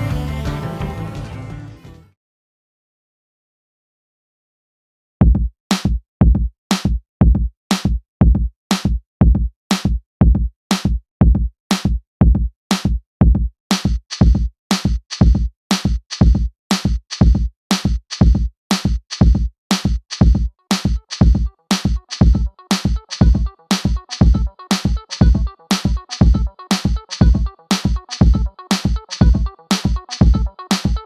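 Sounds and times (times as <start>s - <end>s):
music with heavy beat: 0.0s - 1.7s, 5.2s - 31.0s.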